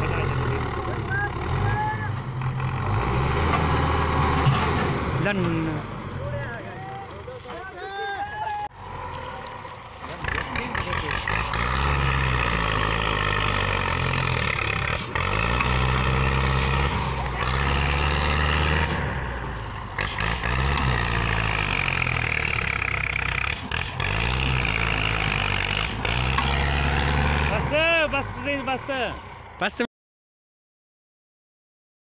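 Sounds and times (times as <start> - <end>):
tractor diesel engine straining: 0.0 - 29.8.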